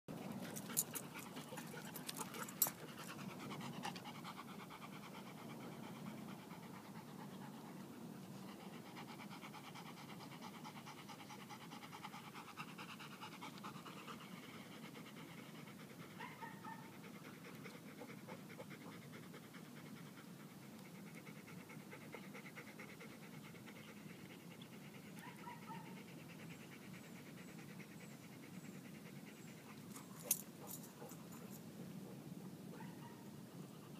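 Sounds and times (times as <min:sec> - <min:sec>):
dog panting: 0:00.1 - 0:32.9.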